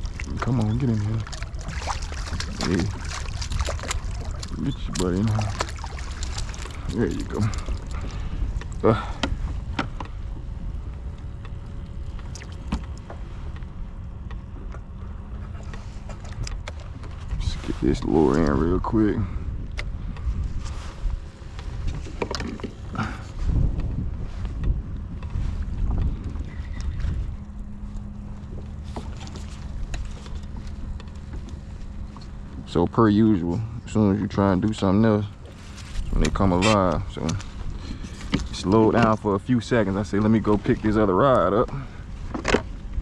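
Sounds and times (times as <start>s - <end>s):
light clicks and knocks in boat: 0.0s - 43.0s
low rumble of water: 0.0s - 43.0s
steady low hum: 0.0s - 43.0s
wind: 0.0s - 43.0s.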